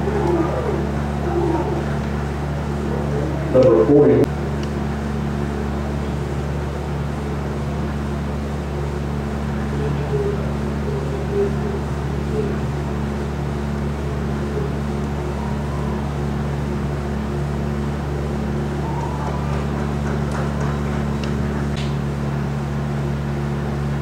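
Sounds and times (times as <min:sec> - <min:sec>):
faint distant crowd: 0:00.0 - 0:22.3
steady low hum: 0:00.0 - 0:24.0.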